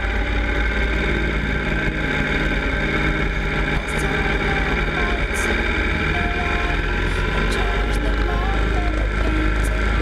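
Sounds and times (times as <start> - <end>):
motorcycle engine drone: 0.0 - 10.0.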